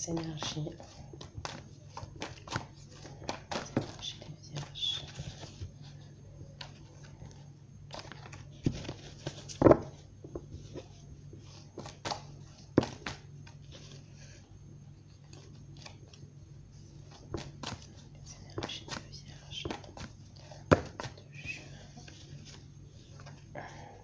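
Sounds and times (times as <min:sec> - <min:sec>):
cards being shuffled: 0:00.1 - 0:14.1, 0:15.2 - 0:23.5.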